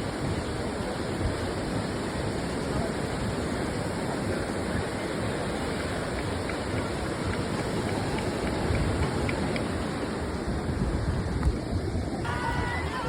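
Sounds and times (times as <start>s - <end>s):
sea surf washing on beach: 0.0s - 13.0s.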